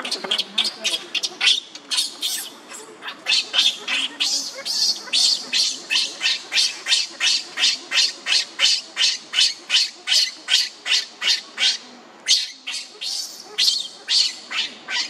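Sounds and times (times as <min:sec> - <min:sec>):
baby monkey crying: 0:00.0 - 0:15.0.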